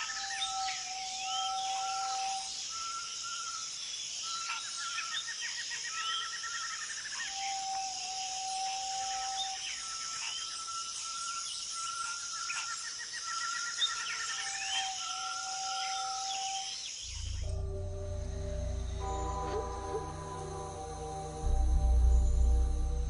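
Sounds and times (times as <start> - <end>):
bird calls with trills and whistles: 0.0 - 21.0
high insect drone: 0.0 - 23.0.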